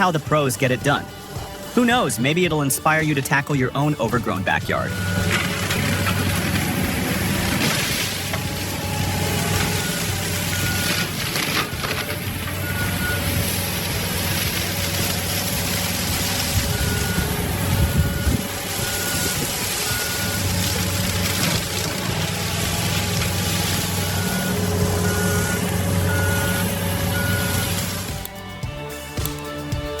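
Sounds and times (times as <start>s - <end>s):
reversing alarm beeping: 3.8s - 28.1s
diesel engine running under load: 4.2s - 28.3s.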